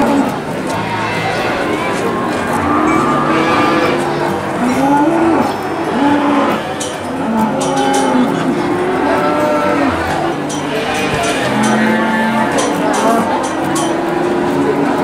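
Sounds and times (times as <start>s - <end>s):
cattle mooing: 0.0s - 15.0s.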